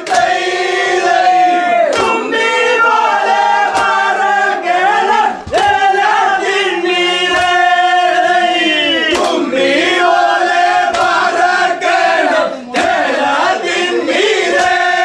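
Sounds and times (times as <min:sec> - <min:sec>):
men singing in unison: 0:00.0 - 0:15.0.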